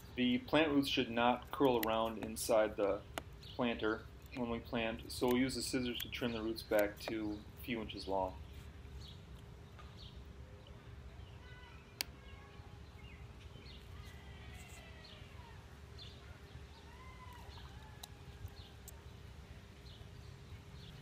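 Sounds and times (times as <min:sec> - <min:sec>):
faint birds chirping: 0:00.0 - 0:21.0
steady low hum: 0:00.0 - 0:21.0.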